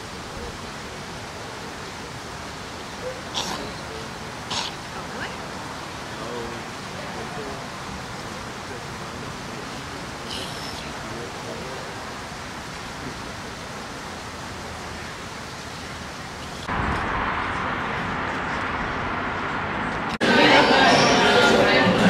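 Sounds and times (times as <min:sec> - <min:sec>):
hiss-like background noise: 0:00.0 - 0:22.0.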